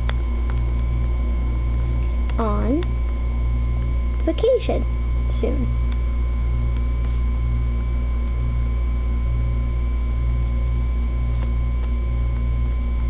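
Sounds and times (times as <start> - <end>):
faint steady whine: 0.0 - 13.0
low electrical hum: 0.0 - 13.0.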